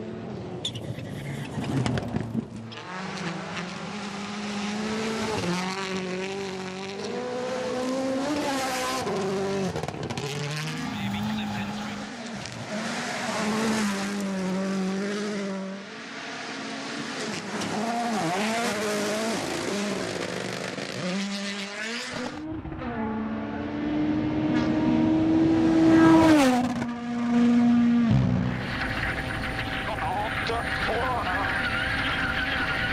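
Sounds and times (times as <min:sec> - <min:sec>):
rally car engines revving: 0:00.0 - 0:32.9
car passing at full throttle: 0:02.7 - 0:32.9.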